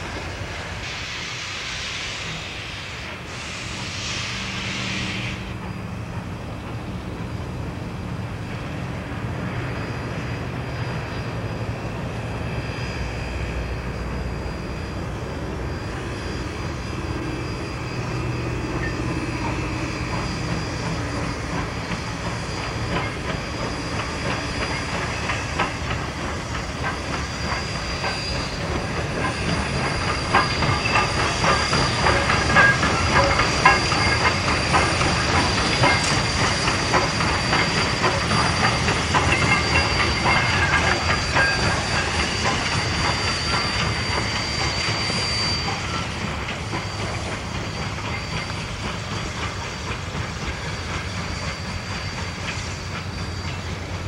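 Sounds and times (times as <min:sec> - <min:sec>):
steam hissing: 0:00.0 - 0:54.0
steam locomotive moving slowly: 0:00.0 - 0:54.0.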